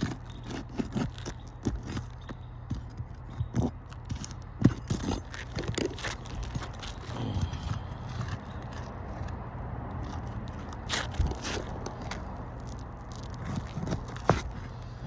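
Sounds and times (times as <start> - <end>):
metal scraping against shingles: 0.0 - 15.0.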